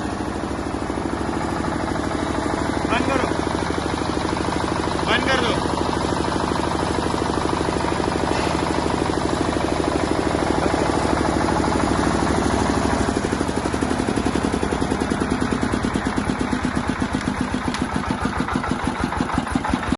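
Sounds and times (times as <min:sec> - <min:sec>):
diesel generator engine chugging: 0:00.0 - 0:19.9.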